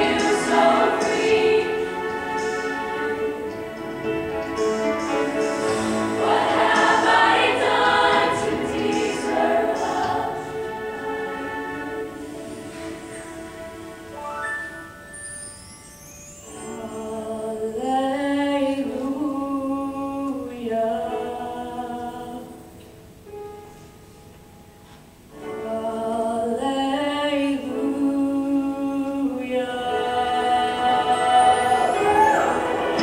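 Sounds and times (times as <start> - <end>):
girls' choir singing held chords: 0.0 - 14.1, 16.5 - 22.8, 25.4 - 33.0.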